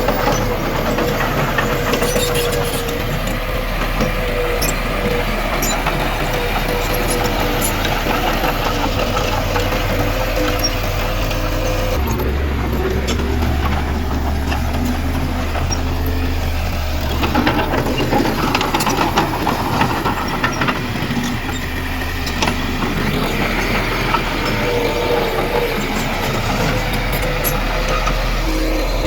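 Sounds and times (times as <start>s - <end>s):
heavy diesel machinery engine drone: 0.0s - 29.0s.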